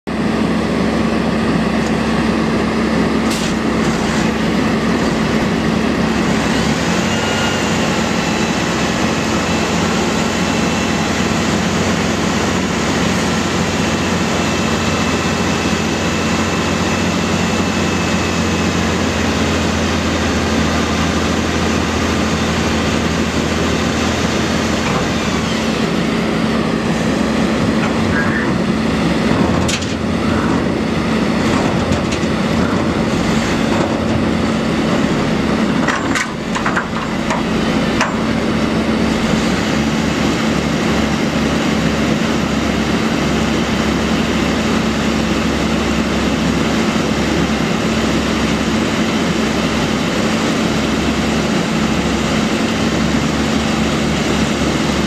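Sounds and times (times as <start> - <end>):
diesel truck engine running: 0.1 - 55.0.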